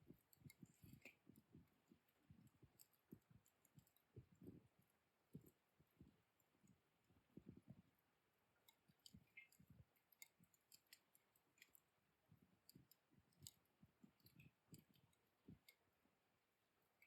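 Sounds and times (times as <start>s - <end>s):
wood fire embers crackling: 0.0s - 16.0s.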